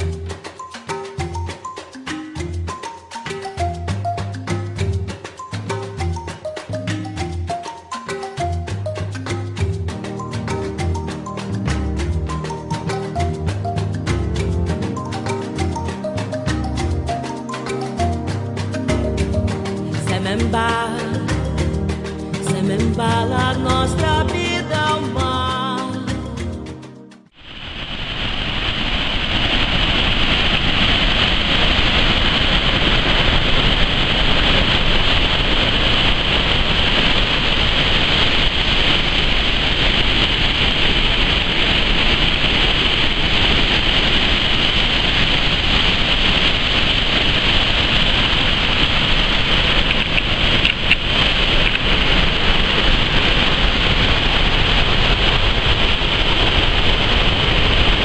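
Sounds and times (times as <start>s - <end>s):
waterfall rushing: 0.0s - 25.5s, 27.4s - 58.0s.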